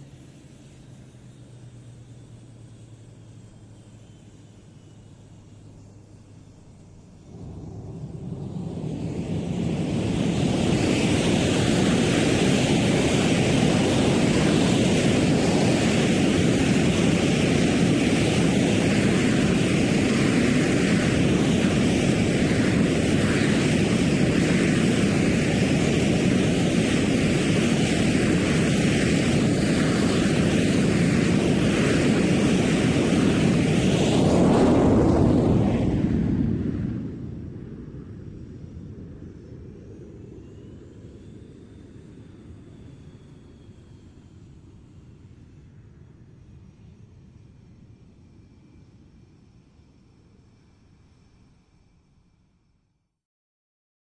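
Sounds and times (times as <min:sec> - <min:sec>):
jet engines roaring: 0:00.0 - 0:46.5.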